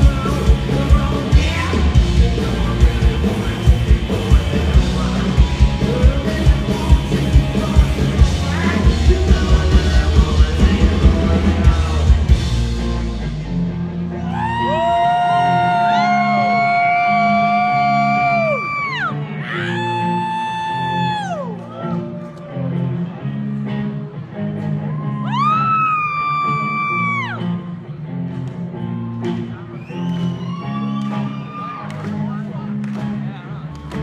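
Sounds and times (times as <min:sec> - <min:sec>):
distorted electric guitars: 0:00.0 - 0:34.0.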